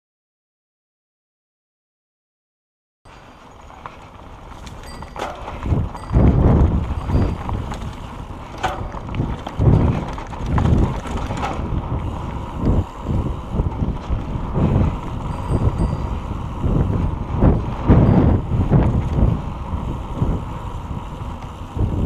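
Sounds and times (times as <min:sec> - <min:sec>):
bike rattling over rough trail: 0:03.1 - 0:22.0
wind buffeting microphone: 0:03.2 - 0:22.0.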